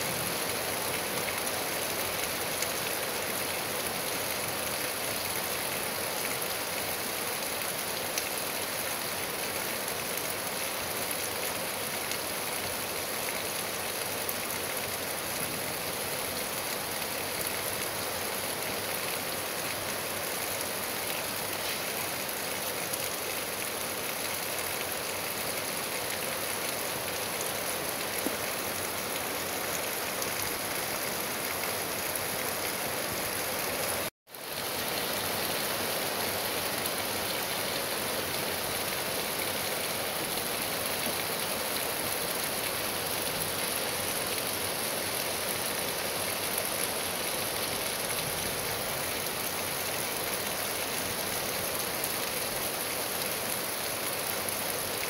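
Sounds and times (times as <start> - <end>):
rain falling on trees and grass: 0.0 - 55.0.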